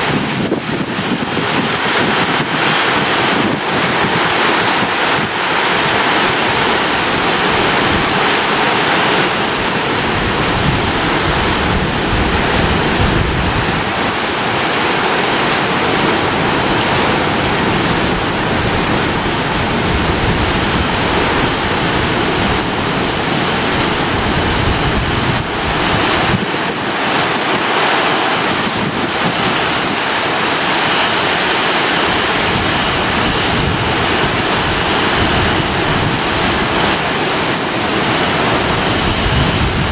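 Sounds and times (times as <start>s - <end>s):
strong wind gusting: 0.0s - 39.9s
wind buffeting microphone: 0.0s - 39.9s.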